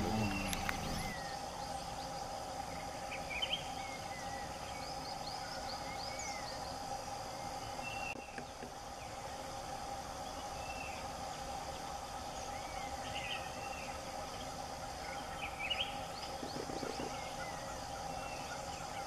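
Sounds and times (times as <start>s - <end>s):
birds chirping: 0.0s - 6.8s, 10.2s - 19.0s
insect drone: 0.0s - 19.0s.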